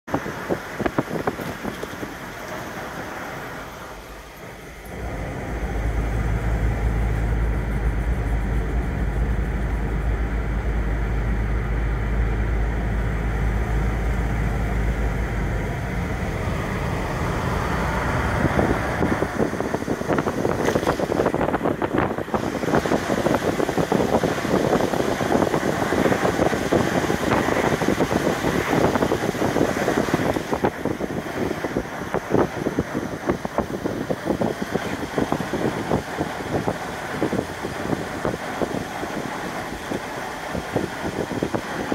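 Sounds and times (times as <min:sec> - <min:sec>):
road rumble in car: 0:00.0 - 0:41.9
wind buffeting microphone: 0:00.1 - 0:03.6, 0:04.8 - 0:41.9.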